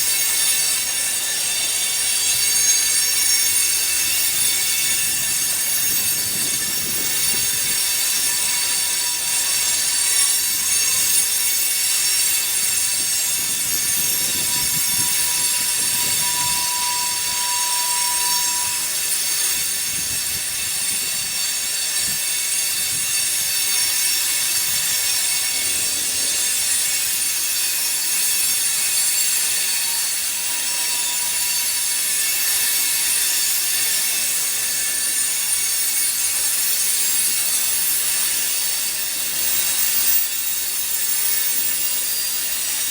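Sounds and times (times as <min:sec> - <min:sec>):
freight train rolling past: 0:00.0 - 0:42.9
train wheels squealing on rails: 0:00.0 - 0:42.9.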